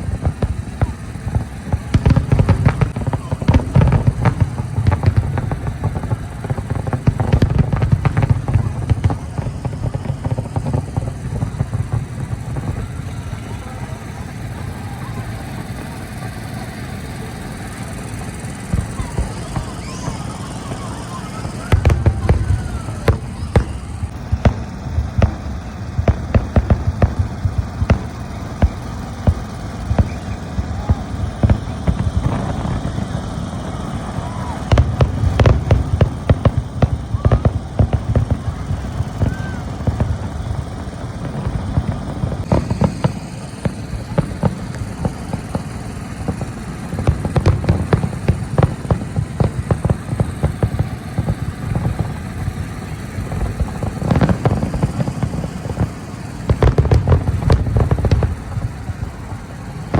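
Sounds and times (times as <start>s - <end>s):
fireworks bangs and crackles: 0.0s - 59.9s
steady low rumble: 0.0s - 59.9s.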